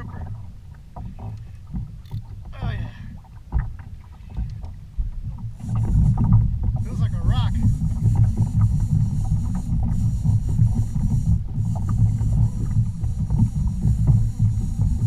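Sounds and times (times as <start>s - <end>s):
water moving against hull: 0.0s - 15.0s.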